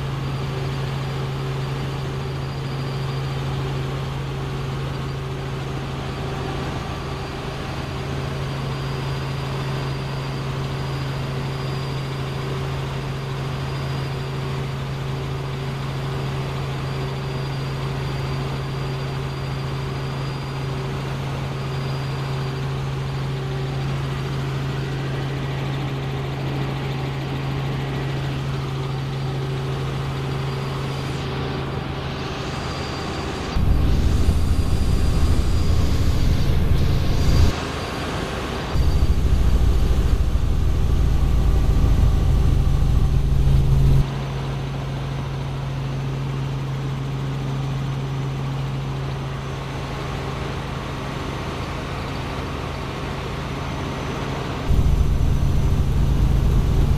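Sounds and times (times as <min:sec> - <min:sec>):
faint high whine: 0:00.0 - 0:56.9
helicopter engine and rotor drone: 0:00.0 - 0:56.9.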